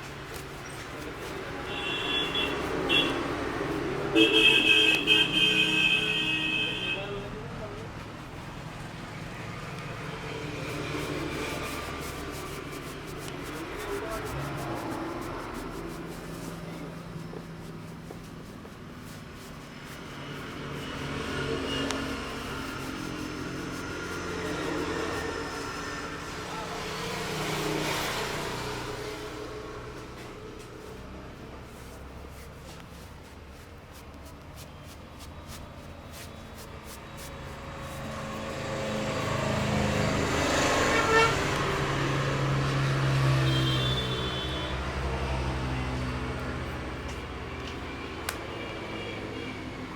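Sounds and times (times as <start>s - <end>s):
vehicle engine humming: 0.0s - 7.0s, 8.1s - 49.9s.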